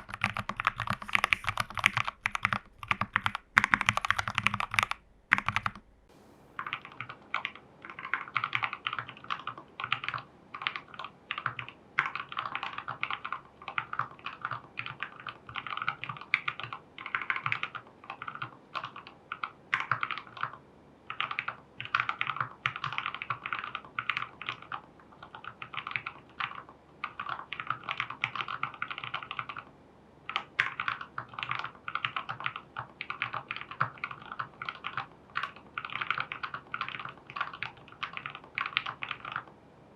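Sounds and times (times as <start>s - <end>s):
mechanical keyboard typing: 0.0s - 5.9s, 6.6s - 29.7s, 30.3s - 39.5s.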